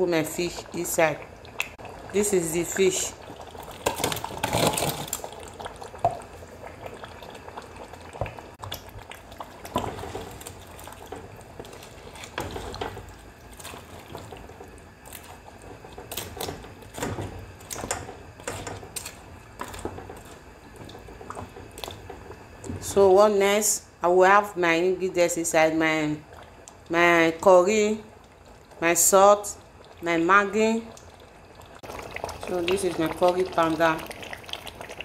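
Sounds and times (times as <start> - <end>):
wet stirring sounds: 0.0 - 23.6, 24.8 - 35.0.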